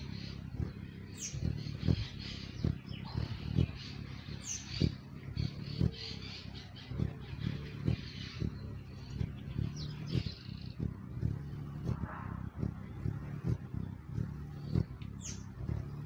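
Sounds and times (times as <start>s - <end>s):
birds chirping faintly: 0.0s - 16.0s
hummingbird wings humming: 0.0s - 16.0s
low thumps: 0.0s - 16.0s.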